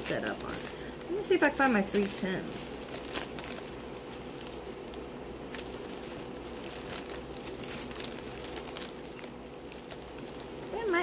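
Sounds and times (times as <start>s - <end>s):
plastic bags of beads crinkling: 0.0s - 11.0s.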